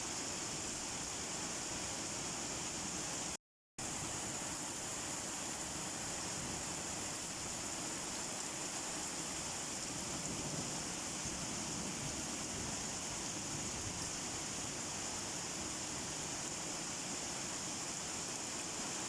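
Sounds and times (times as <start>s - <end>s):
rain falling steadily: 0.0s - 19.0s.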